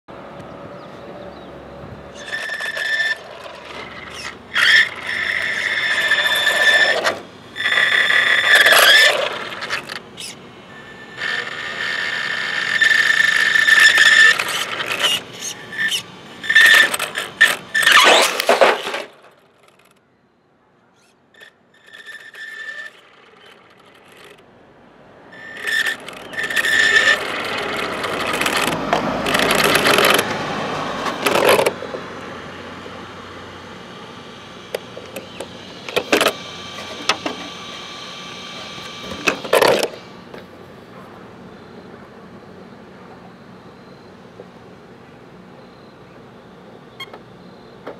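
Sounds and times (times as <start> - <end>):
rc truck motor whine: 1.3 - 20.0, 21.0 - 40.8.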